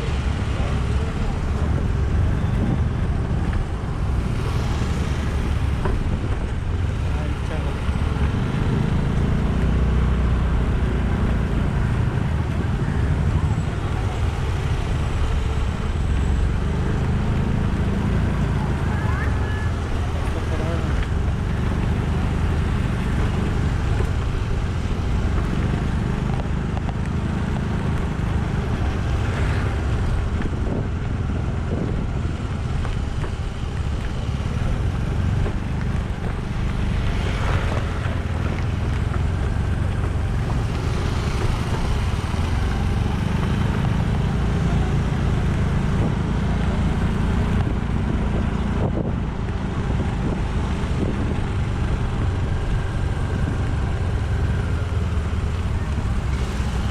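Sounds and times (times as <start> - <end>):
vehicle engine and road noise: 0.0 - 56.9
wind rushing over microphone: 0.0 - 56.9.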